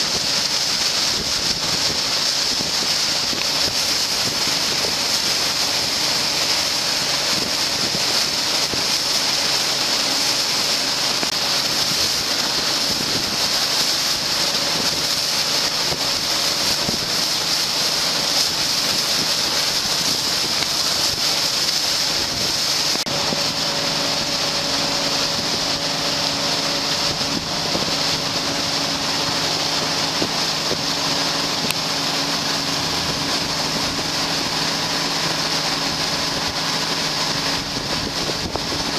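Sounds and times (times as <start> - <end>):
boat engines running: 0.0 - 38.9
rush of water and spray: 0.0 - 38.9
wind on microphone: 0.0 - 38.9.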